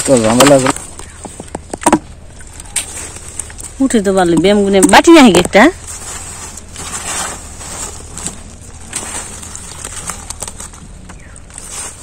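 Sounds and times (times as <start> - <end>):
wet net rustling: 0.0 - 12.0.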